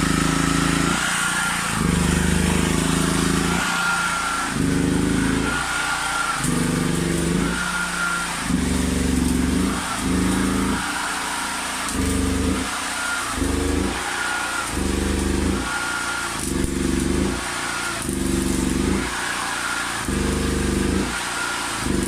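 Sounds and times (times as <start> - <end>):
generator engine surging: 0.0 - 22.0.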